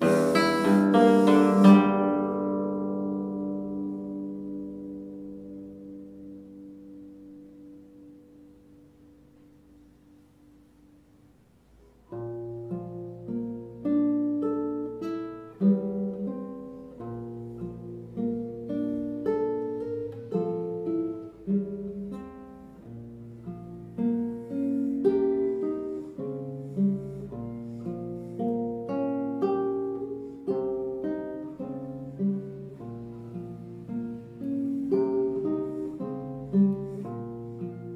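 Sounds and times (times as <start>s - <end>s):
fingerstyle classical guitar: 0.0s - 37.9s.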